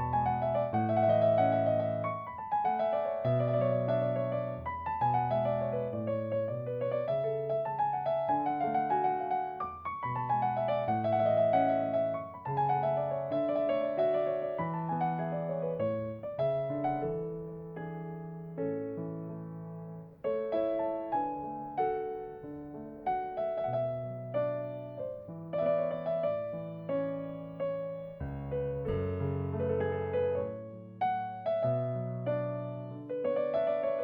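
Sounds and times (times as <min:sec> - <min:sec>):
slow piano piece: 0:00.0 - 0:34.0.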